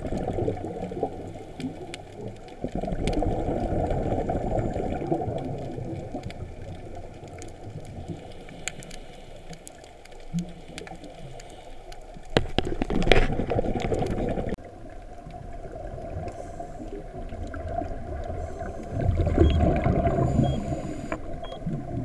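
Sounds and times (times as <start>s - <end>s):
underwater bubbles gurgling: 0.0s - 22.0s.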